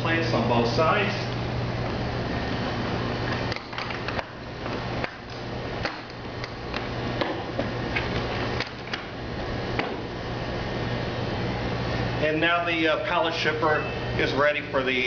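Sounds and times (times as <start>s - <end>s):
room ventilation hum: 0.0s - 15.0s.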